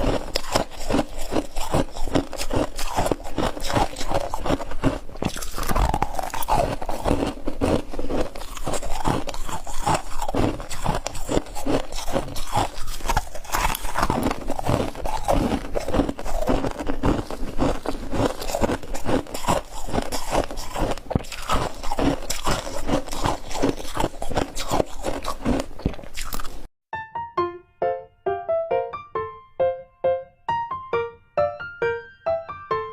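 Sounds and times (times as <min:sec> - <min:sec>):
crunching and chewing frost chunks: 0:00.0 - 0:26.7.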